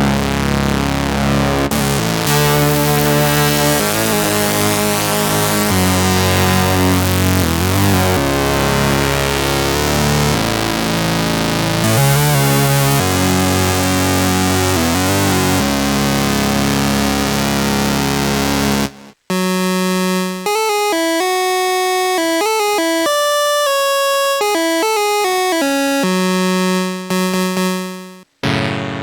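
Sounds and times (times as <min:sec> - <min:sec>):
chiptune synthesizer music: 0:00.0 - 0:29.0.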